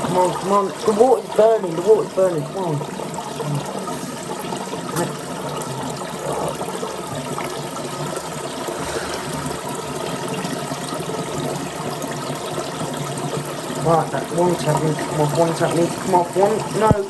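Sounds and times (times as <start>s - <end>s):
water running from a tap: 0.0s - 17.0s.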